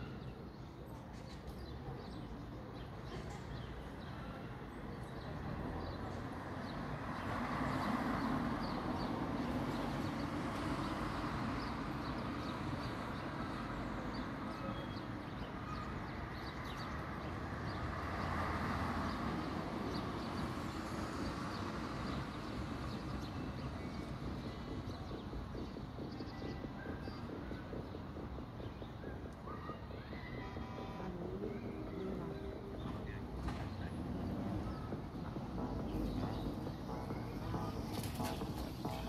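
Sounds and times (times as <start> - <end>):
small birds chirping: 0.0 - 39.0
distant vehicles passing: 3.0 - 39.0.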